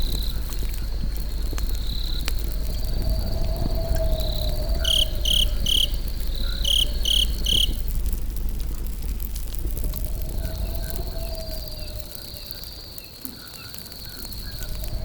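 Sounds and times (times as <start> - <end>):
campfire crackling and popping: 0.0 - 15.0
cricket chirps: 0.0 - 15.0
insects trilling: 0.0 - 15.0.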